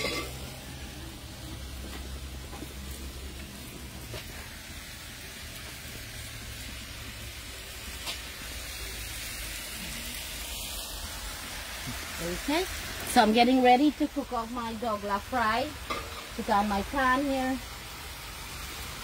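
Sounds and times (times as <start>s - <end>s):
turkey frying sizzling: 0.0s - 19.0s.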